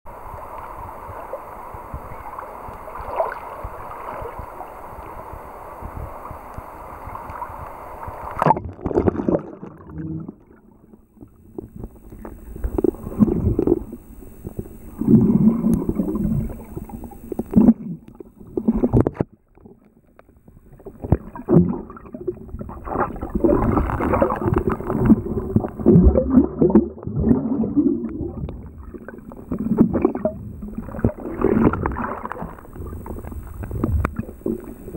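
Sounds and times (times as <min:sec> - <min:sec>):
underwater gurgling and bubbling: 0:00.1 - 0:34.9.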